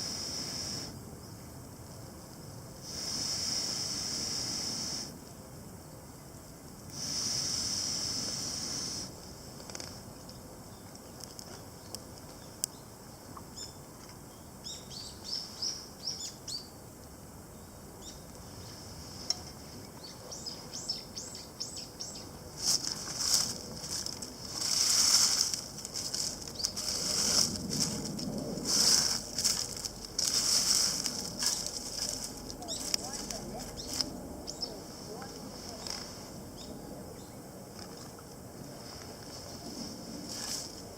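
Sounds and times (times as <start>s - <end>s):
crackling hissing noise: 0.0s - 40.9s.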